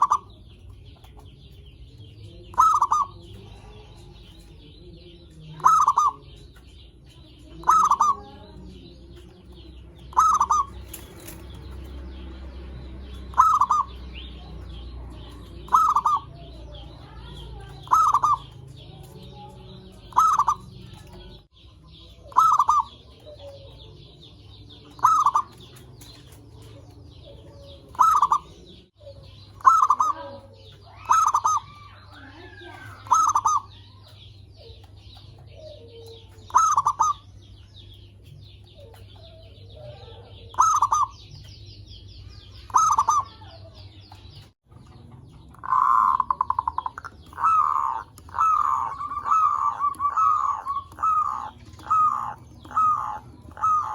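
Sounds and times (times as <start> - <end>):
dove cooing: 0.0 - 0.6, 1.4 - 11.6, 13.0 - 21.4, 22.1 - 37.3, 38.7 - 41.6, 42.5 - 44.4, 45.5 - 53.9.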